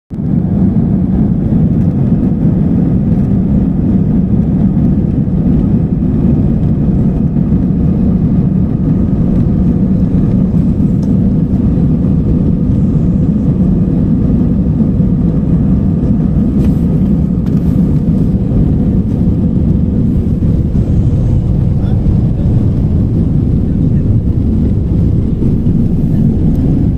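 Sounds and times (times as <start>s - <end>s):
jet airliner cabin rumble: 0.1s - 26.9s.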